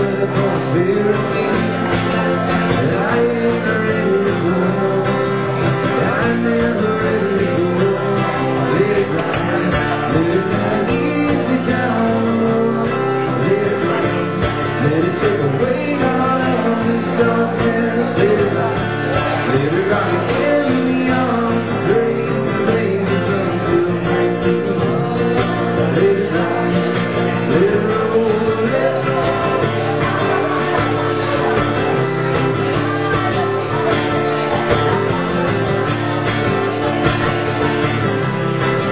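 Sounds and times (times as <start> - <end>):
acoustic guitar: 0.0 - 38.9
man singing: 0.0 - 38.9.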